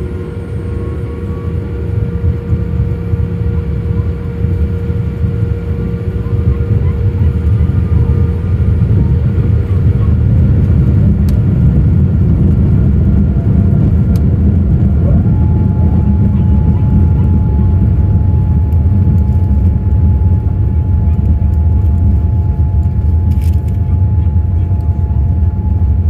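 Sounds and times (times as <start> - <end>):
airliner engines rumbling: 0.0 - 26.0
engine whine rising: 0.0 - 26.0.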